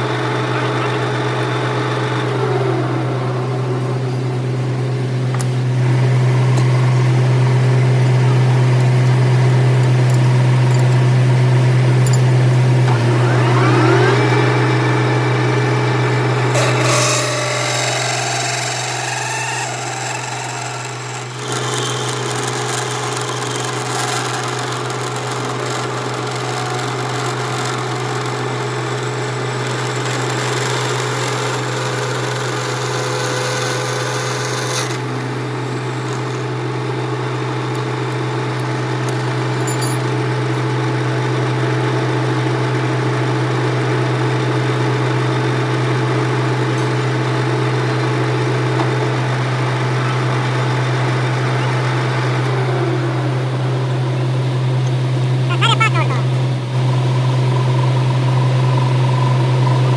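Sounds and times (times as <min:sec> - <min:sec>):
lathe motor hum: 0:00.0 - 0:59.9.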